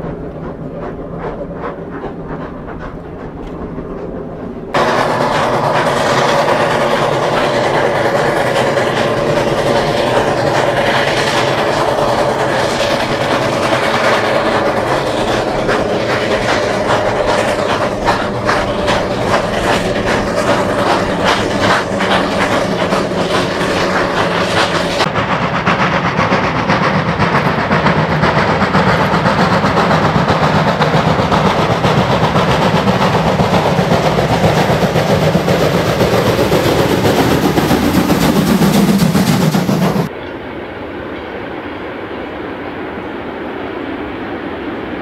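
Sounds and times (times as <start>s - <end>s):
steam rotary snowplow working: 0.0s - 40.1s
distant steam train: 0.0s - 45.0s
steam locomotive working hard: 0.0s - 45.0s.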